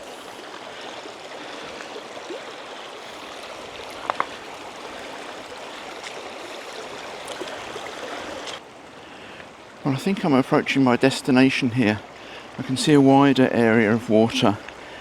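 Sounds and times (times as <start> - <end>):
river running over rocks: 0.0 - 15.0.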